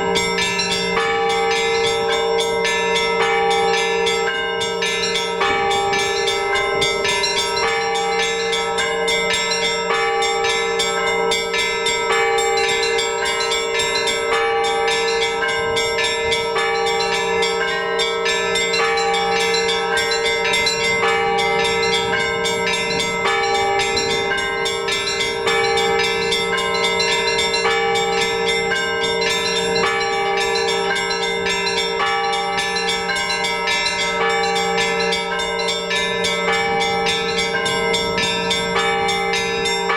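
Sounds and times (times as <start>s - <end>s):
hum of large bells: 0.0s - 39.9s
small church bells ringing: 0.0s - 39.9s.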